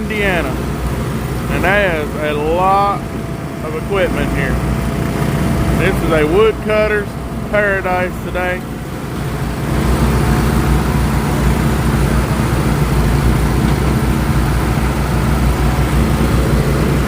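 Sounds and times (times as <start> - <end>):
firewood processor engine running: 0.0 - 17.0.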